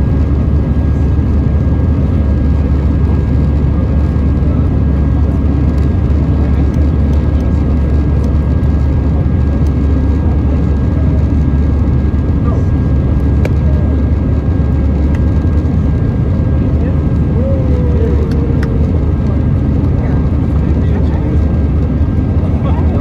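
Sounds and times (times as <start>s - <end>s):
aircraft cabin engine drone: 0.0s - 23.0s.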